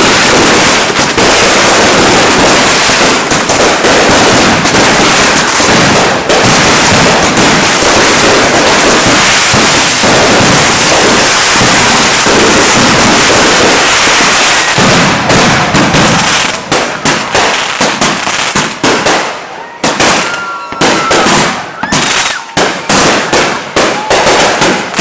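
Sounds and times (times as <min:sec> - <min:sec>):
fireworks explosions barrage: 0:00.0 - 0:25.0.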